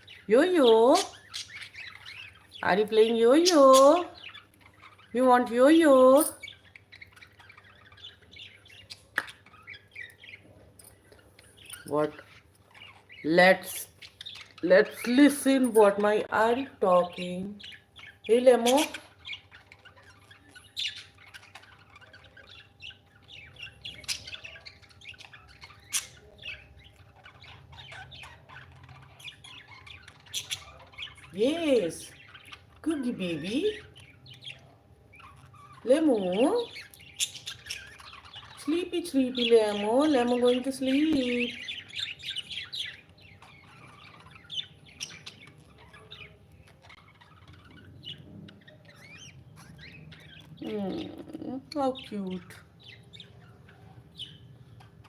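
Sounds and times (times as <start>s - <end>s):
parrot chirping and squawking: 0.0s - 55.0s.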